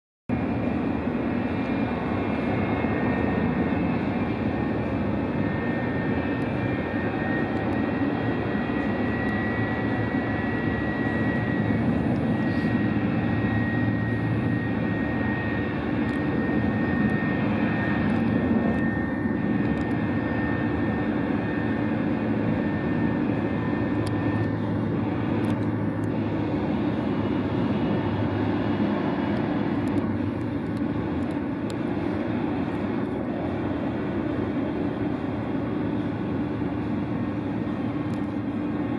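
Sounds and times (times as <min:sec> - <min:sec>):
high engine whine: 0:00.3 - 0:38.9
muffled jet engines rumbling: 0:00.3 - 0:38.9.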